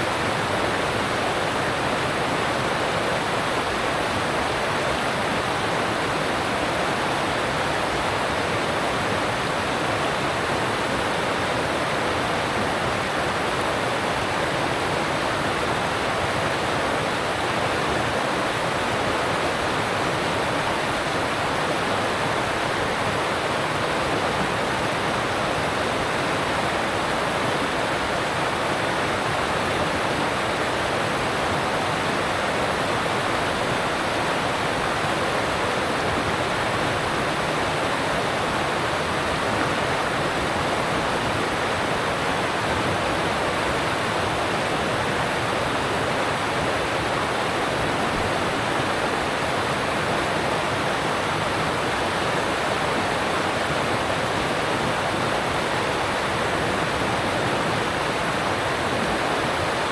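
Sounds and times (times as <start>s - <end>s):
mountain stream rushing over rocks: 0.0s - 59.9s.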